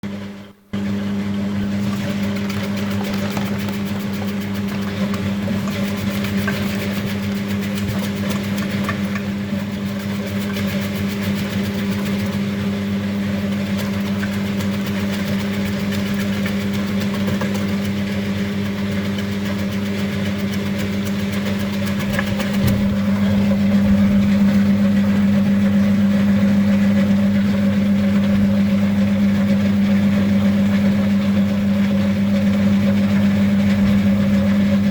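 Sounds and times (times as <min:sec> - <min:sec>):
dicing machine motor hum: 0:00.7 - 0:18.3, 0:19.9 - 0:34.9.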